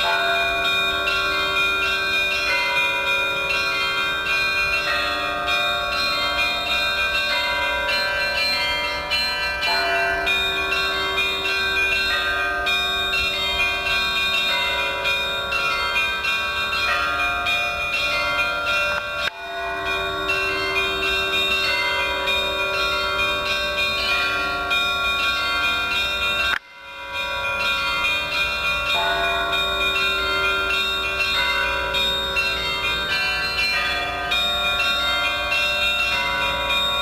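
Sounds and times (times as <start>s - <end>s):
church bells ringing a peal: 0.0s - 37.0s.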